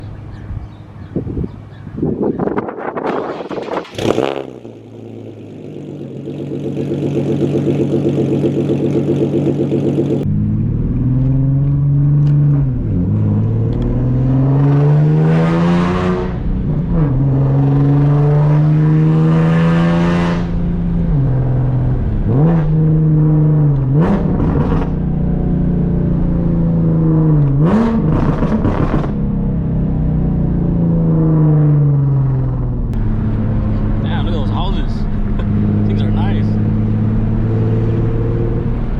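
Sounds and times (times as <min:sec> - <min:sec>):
car engine accelerating hard: 0:03.0 - 0:38.9.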